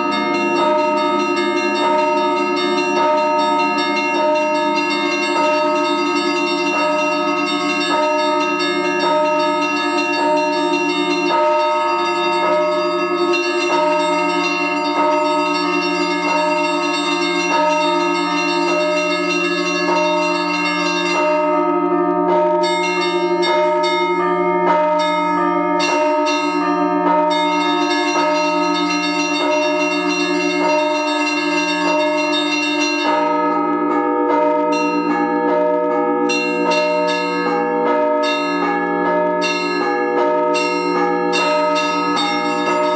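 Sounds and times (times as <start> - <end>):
large bells striking: 0.0 - 42.9
small high bells ringing: 0.0 - 42.9.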